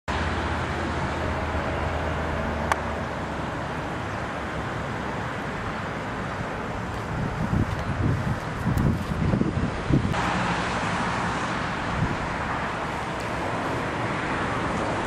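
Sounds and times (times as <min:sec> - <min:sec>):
outdoor background rumble: 0:00.1 - 0:15.0.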